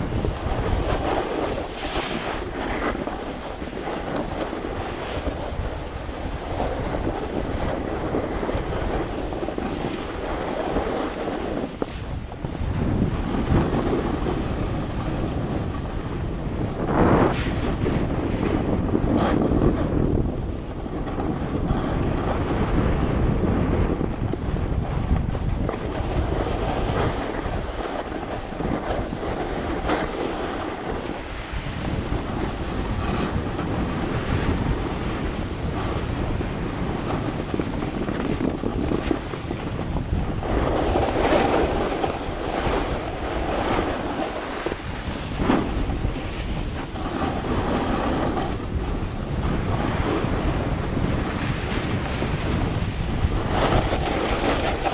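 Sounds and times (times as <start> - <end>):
snowboard scraping over snow: 0.0 - 54.9
wind buffeting microphone: 0.0 - 54.9.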